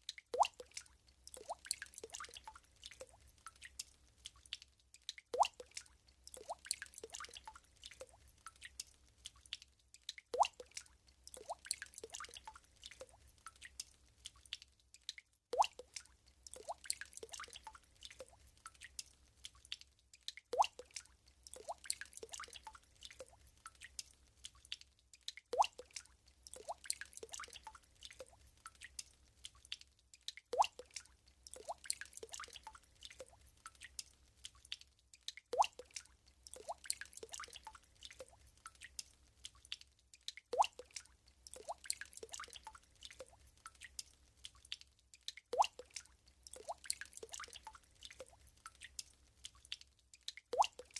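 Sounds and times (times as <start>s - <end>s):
water drops plinking into water: 0.0s - 50.9s.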